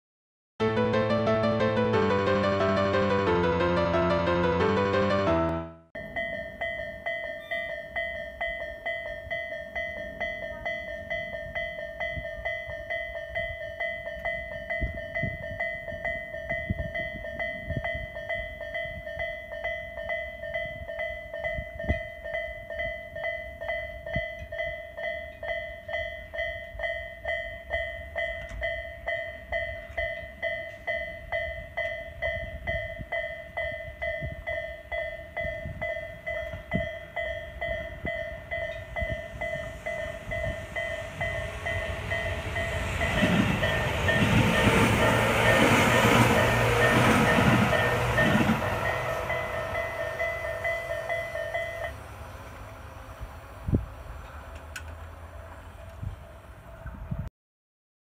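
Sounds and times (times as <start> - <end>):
train approaching: 0.6 - 57.2
level crossing bell ringing: 1.6 - 52.0.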